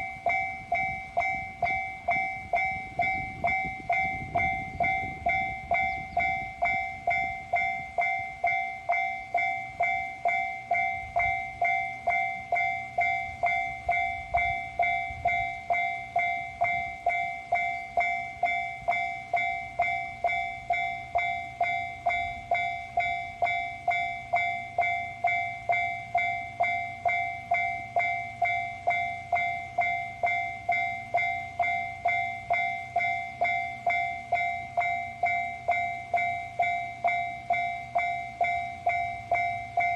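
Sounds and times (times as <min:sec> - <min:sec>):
diesel railcar rumble: 0:00.0 - 0:39.9
railroad crossing alarm clanging: 0:00.0 - 0:39.9.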